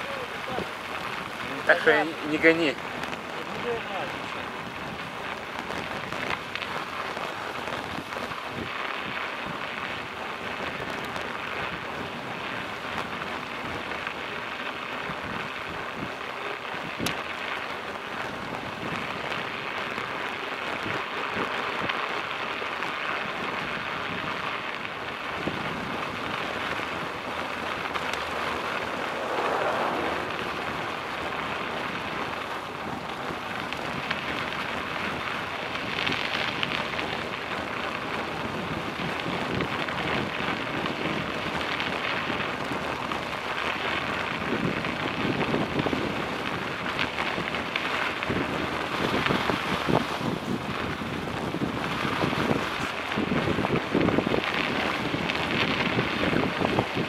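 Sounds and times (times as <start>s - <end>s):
bicycle tyres rolling on snow: 0.0s - 57.0s.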